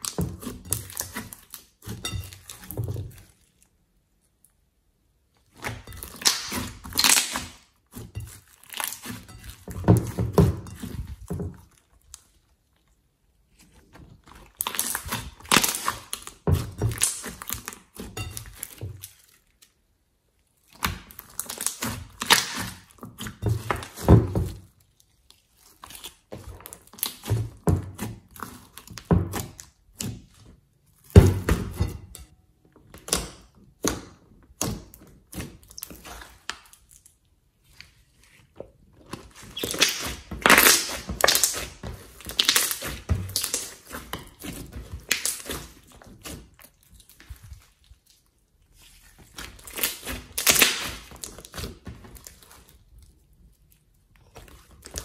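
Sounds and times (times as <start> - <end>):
slime squelching and popping: 5.4 - 13.0, 13.6 - 55.0.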